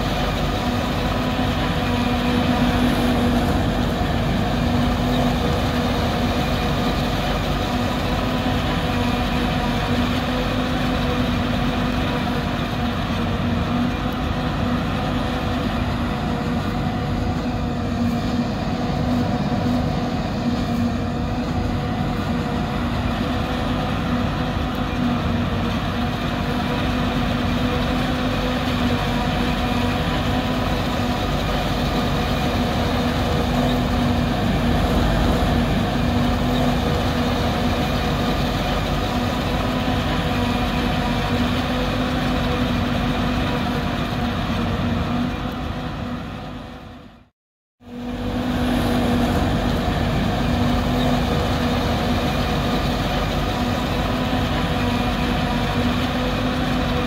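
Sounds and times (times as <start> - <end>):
forage harvester running: 0.0 - 57.0.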